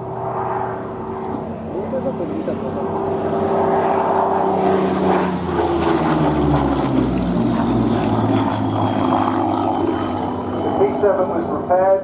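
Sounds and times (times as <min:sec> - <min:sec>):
propeller plane engine flying past: 0:00.0 - 0:12.0.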